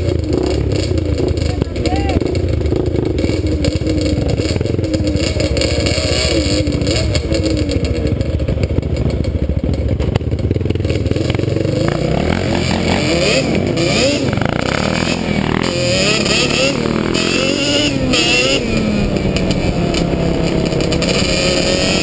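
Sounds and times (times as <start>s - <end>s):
quad engine running under load: 0.0s - 22.0s.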